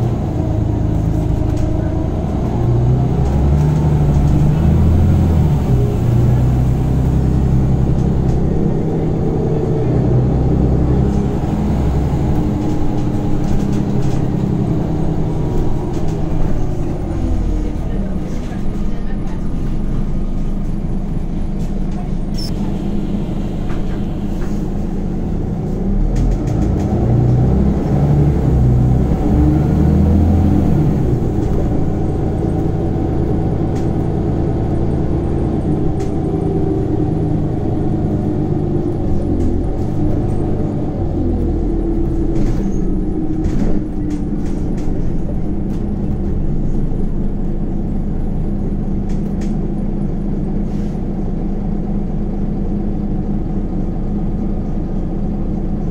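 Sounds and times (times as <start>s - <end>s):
bus diesel engine: 0.0s - 55.9s.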